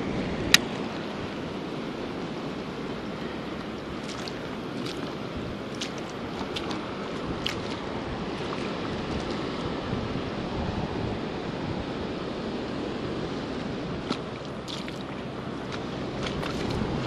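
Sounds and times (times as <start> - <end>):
rushing spillway water: 0.0 - 17.0
wind buffeting microphone: 0.0 - 17.0.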